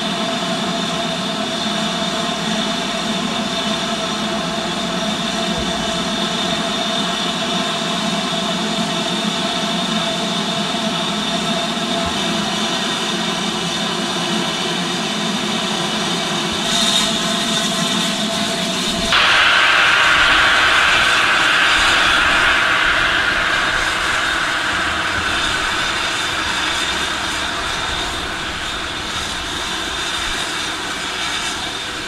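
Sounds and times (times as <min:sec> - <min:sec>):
steam hissing: 0:00.0 - 0:32.0.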